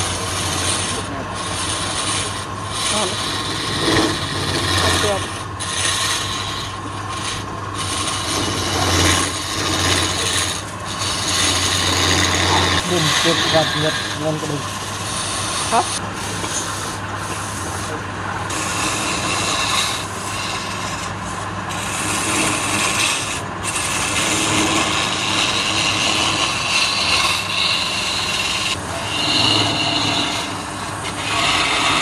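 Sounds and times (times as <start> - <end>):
chisel scraping spinning wood: 0.0 - 32.0
lathe motor humming: 0.0 - 32.0.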